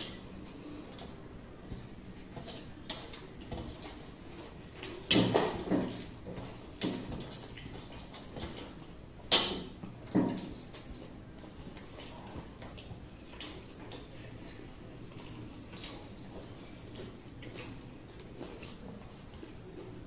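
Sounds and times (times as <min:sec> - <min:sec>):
people eating by hand from metal plates: 0:00.0 - 0:20.0.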